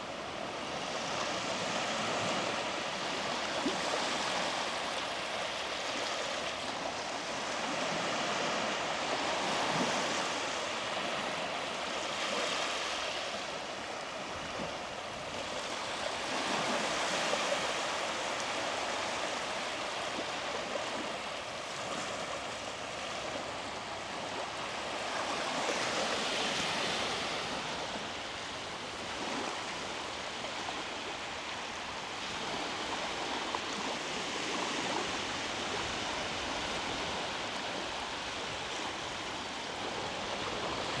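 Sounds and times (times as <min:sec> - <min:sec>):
small waves washing on beach: 0:00.0 - 0:41.0.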